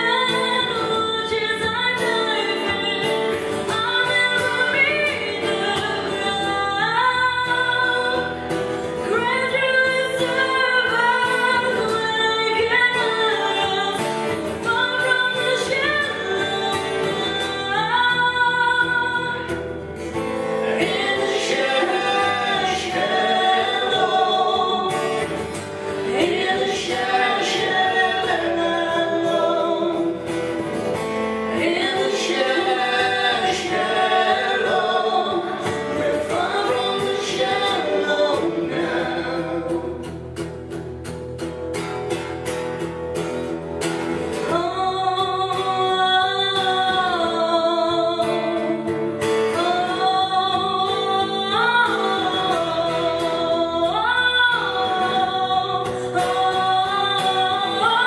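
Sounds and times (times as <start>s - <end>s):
woman singing: 0.0s - 19.9s, 20.5s - 40.5s, 44.3s - 58.0s
strummed acoustic guitar: 0.0s - 58.0s.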